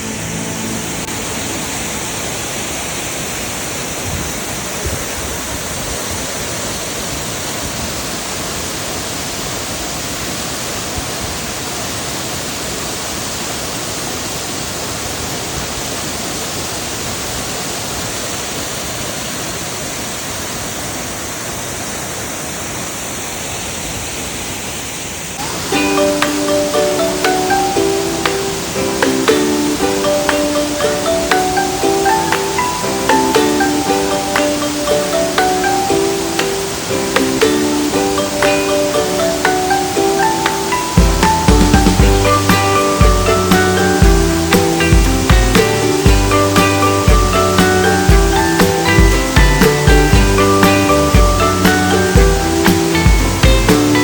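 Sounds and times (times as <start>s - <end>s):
waterfall roar: 0.0s - 54.0s.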